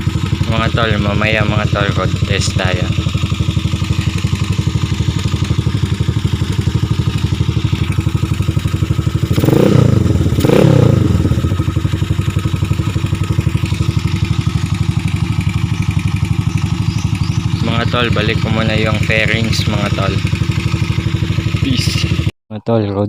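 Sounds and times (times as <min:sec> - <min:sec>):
motorcycle engine idling and revving: 0:00.0 - 0:22.3.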